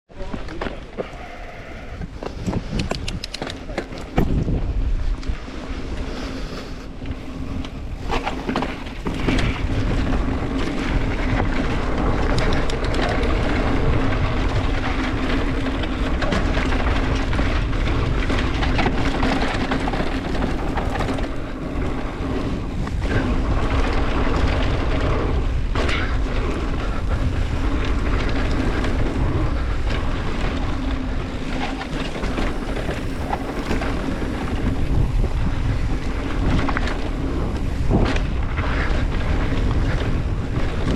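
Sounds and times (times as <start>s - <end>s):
wind and tyre noise: 0.1s - 40.9s
bike clicks and rattles: 0.2s - 40.9s.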